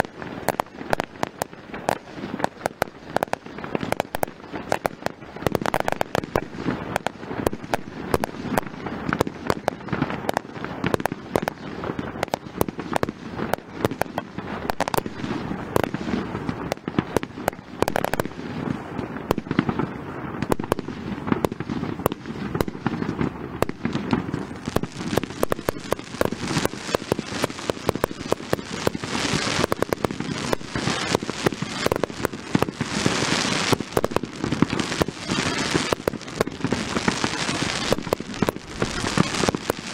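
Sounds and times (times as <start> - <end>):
fireworks bangs and crackles: 0.0 - 39.9
hissing crackle: 0.0 - 39.9.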